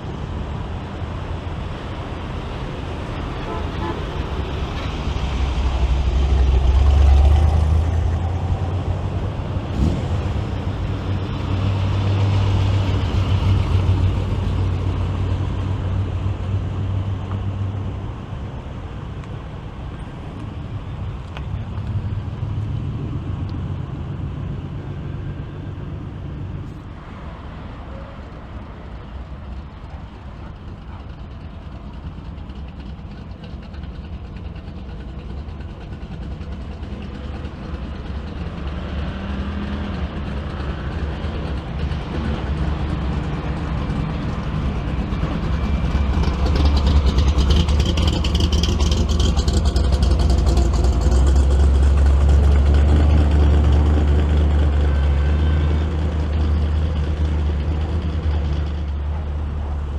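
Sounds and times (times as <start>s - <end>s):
car engines running: 0.0s - 59.9s.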